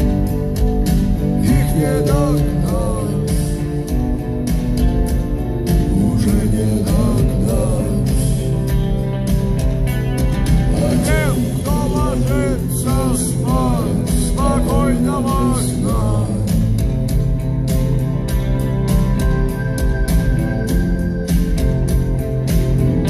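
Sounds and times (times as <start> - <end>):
rock band playing live: 0.0 - 23.0
wavering bending guitar melody: 0.0 - 23.0.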